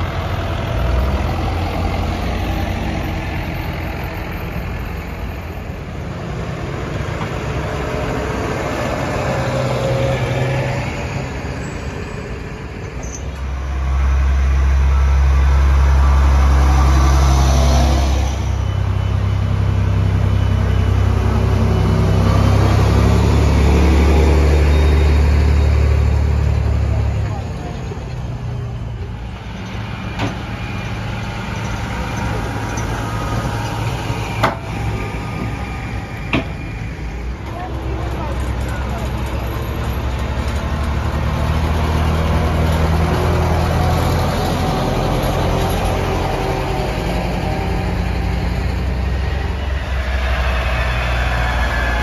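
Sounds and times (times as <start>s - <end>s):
diesel tractor engines running: 0.0s - 52.0s.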